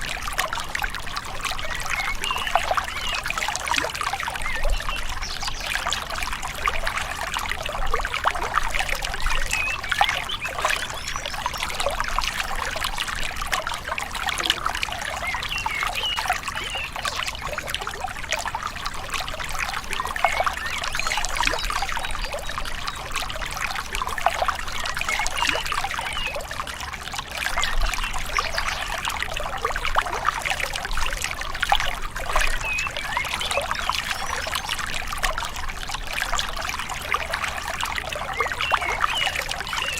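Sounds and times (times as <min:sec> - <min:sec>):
river babbling and trickling: 0:00.0 - 0:39.9.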